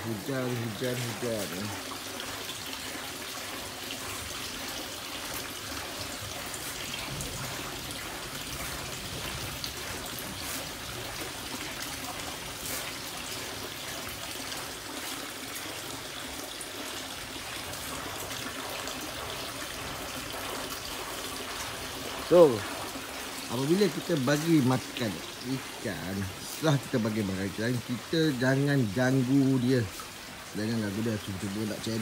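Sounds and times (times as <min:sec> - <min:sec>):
light rain on water: 0:00.0 - 0:32.0.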